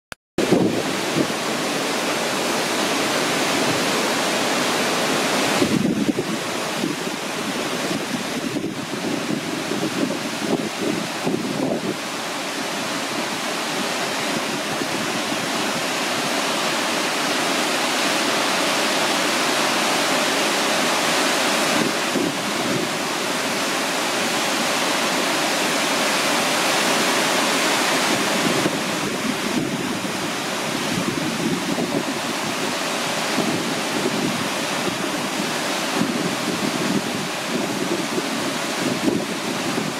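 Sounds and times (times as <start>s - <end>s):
waterfall rushing: 0.4s - 39.9s.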